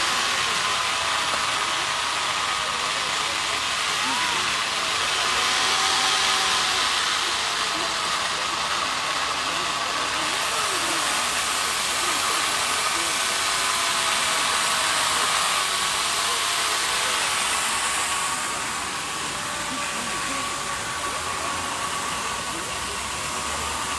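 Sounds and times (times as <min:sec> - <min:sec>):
crowd murmuring: 0:00.0 - 0:23.9
power tool cutting ice: 0:00.0 - 0:23.9.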